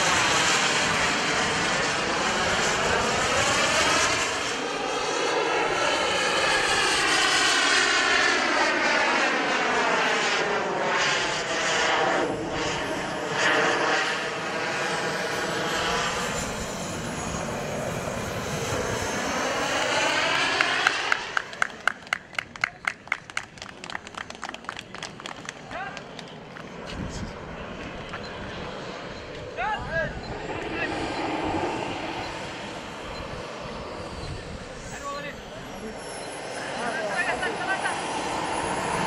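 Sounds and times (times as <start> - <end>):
model jet turbine whine: 0.0 - 22.2, 25.5 - 39.0.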